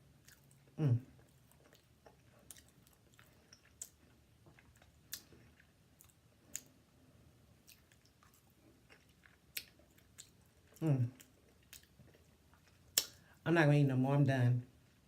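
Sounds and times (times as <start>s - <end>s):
person chewing wet smacks: 0.2s - 6.8s, 7.6s - 13.4s.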